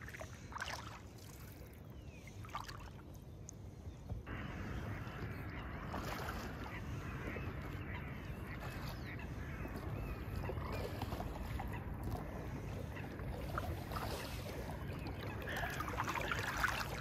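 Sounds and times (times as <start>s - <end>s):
paddle splashing and dripping: 0.0s - 3.6s, 4.2s - 17.0s
water running past hull: 0.0s - 17.0s.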